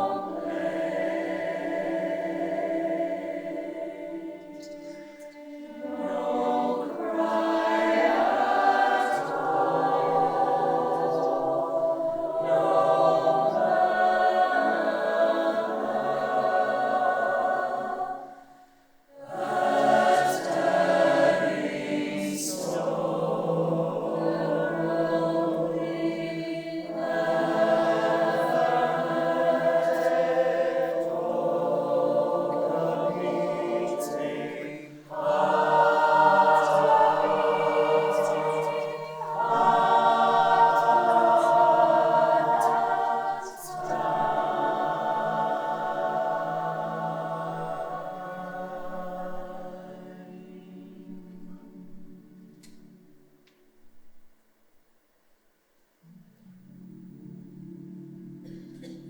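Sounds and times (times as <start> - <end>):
choir singing held chords: 0.0 - 53.8, 56.0 - 59.0.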